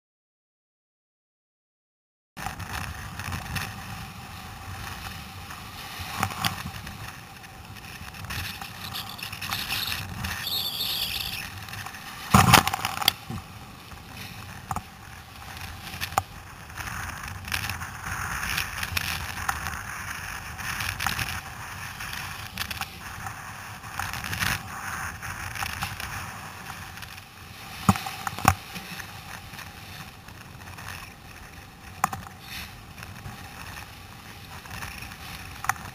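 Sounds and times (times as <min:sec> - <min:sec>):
surf and whitewater rushing: 0:02.4 - 0:35.9.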